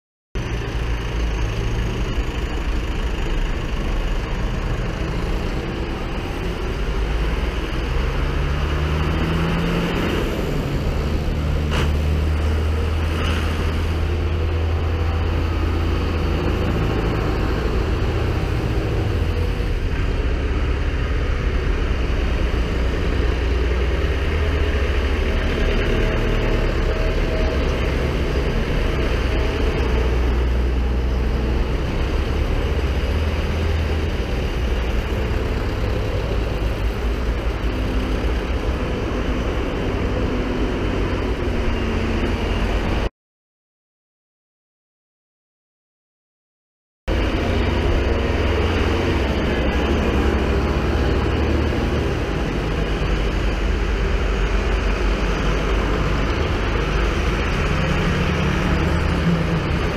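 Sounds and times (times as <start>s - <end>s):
tractors driving past: 0.4s - 43.1s, 47.1s - 59.9s.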